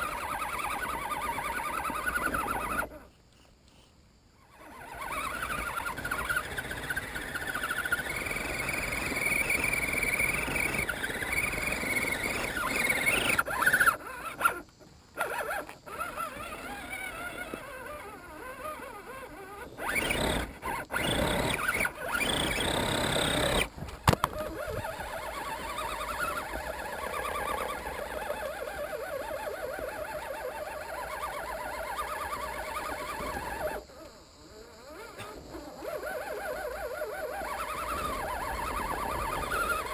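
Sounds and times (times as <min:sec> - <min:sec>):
electric motor and gears whining: 0:00.0 - 0:03.1, 0:04.5 - 0:39.9.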